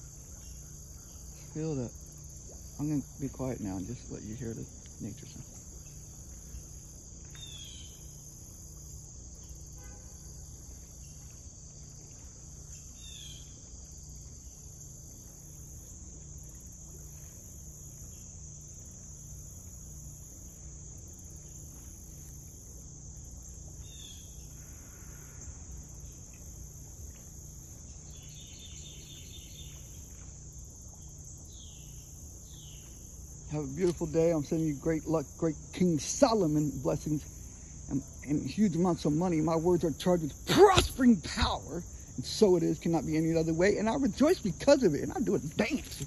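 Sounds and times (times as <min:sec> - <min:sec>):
insects chirping: 0:00.0 - 0:46.0.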